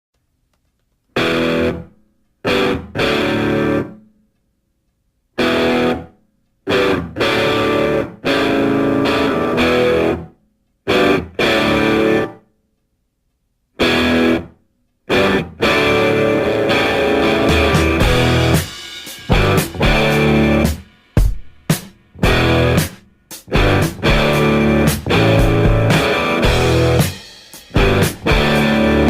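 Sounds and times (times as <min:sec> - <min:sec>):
distorted electric guitar chords: 0:01.2 - 0:04.0, 0:05.4 - 0:06.1, 0:06.7 - 0:10.3, 0:10.9 - 0:12.4, 0:13.8 - 0:14.5, 0:15.1 - 0:29.0.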